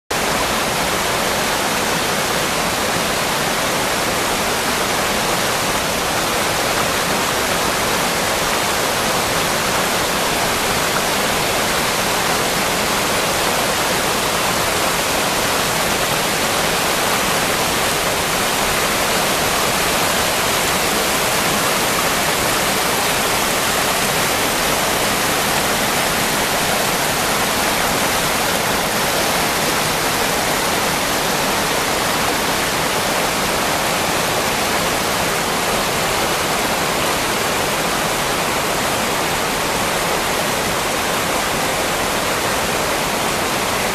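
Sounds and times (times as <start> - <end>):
river rushing over rapids: 0.1 - 43.9.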